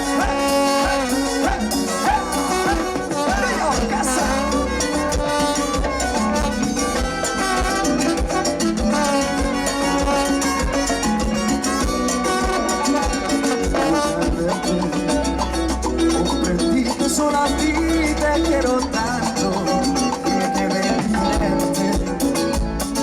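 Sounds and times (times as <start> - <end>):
latin band playing: 0.0 - 23.0.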